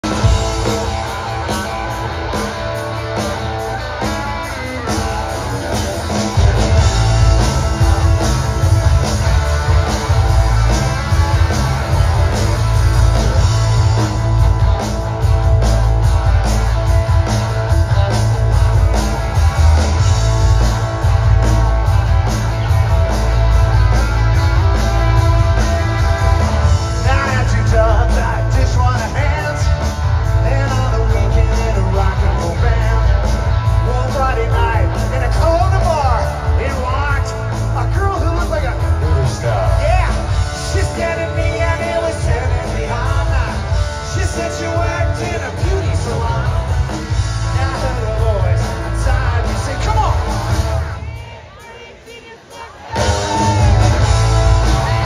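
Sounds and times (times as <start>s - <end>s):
bass: 0.0s - 51.5s, 52.8s - 55.0s
electric guitars: 0.0s - 51.5s, 52.8s - 55.0s
drums: 0.0s - 55.0s.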